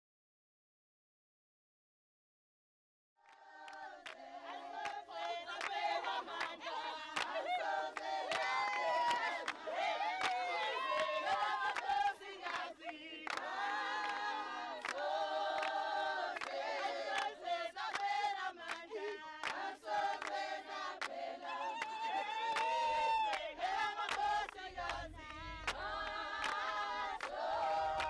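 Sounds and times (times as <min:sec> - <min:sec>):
hand claps: 0:03.3 - 0:28.0
women singing together: 0:03.3 - 0:28.0.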